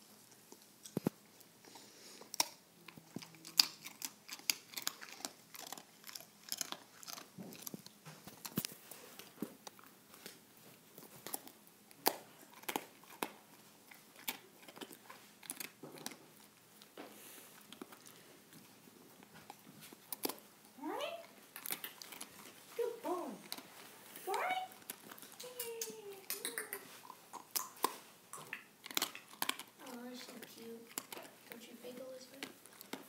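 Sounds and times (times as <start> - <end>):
dog gnawing on a chew: 0.3 - 33.0.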